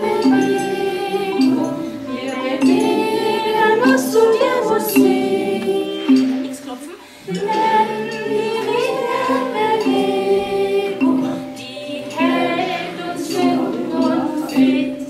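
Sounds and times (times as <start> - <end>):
group singing: 0.0 - 15.0
hand percussion on the beat: 0.0 - 15.0.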